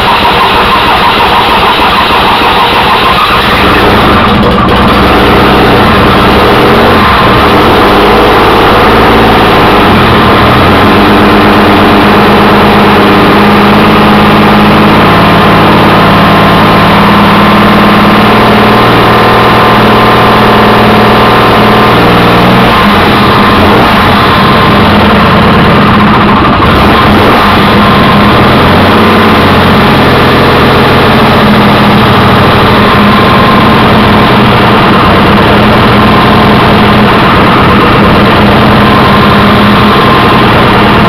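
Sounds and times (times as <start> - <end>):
rough engine running: 0.0 - 41.0.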